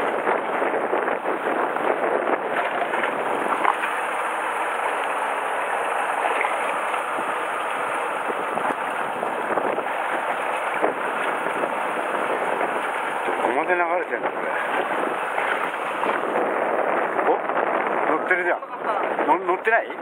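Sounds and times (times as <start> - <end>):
wind rushing: 0.0 - 18.3
sea water rushing: 0.0 - 20.0.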